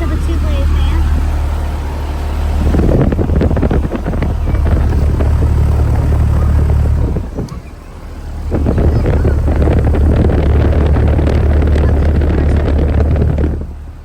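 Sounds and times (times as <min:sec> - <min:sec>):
air conditioner unit humming: 0:00.0 - 0:14.0
wind buffeting microphone: 0:00.0 - 0:14.0.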